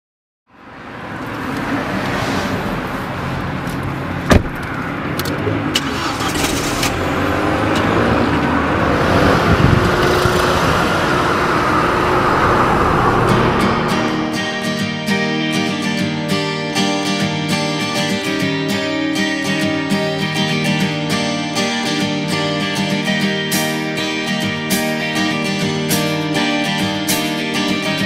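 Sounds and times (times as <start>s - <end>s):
car engine and road noise: 0.5s - 28.0s.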